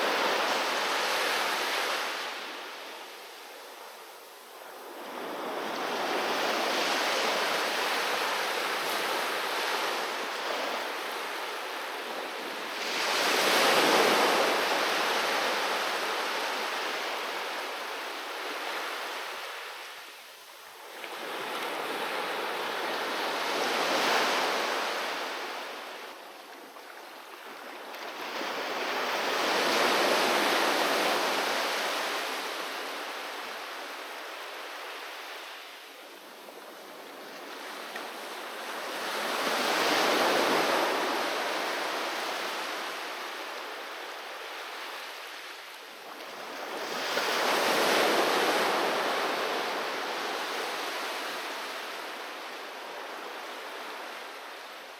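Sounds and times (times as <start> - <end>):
sea waves breaking on beach: 0.0 - 3.8, 4.5 - 20.1, 20.8 - 54.9.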